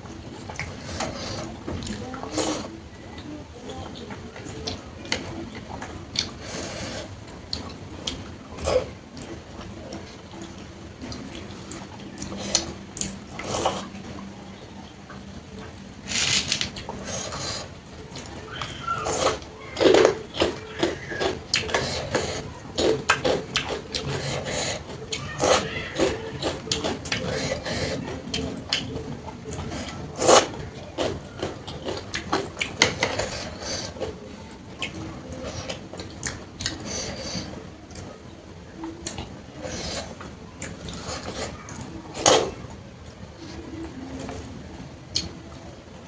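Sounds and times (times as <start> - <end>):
wet chewing and slurping: 0.1 - 38.2, 38.8 - 44.5.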